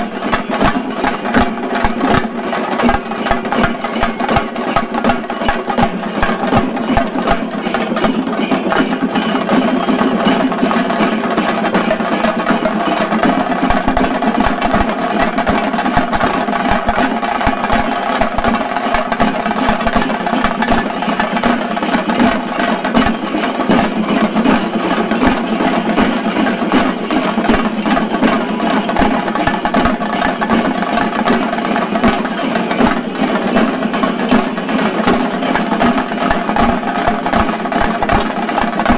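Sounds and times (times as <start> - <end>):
drums playing fast rhythm: 0.0 - 38.9.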